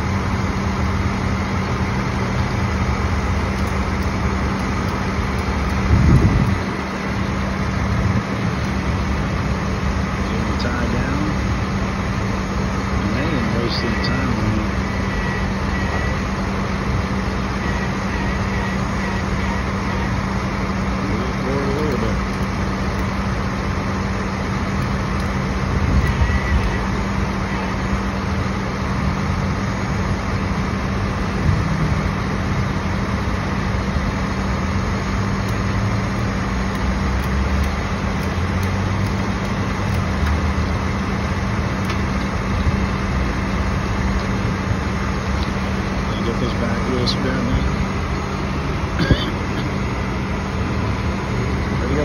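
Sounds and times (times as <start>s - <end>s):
tow truck engine idling: 0.0s - 52.0s.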